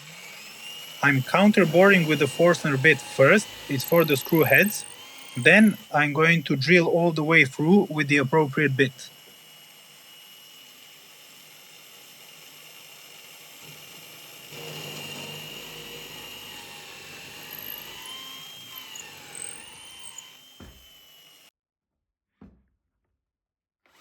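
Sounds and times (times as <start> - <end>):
electric drill boring into wood: 0.0 - 21.5.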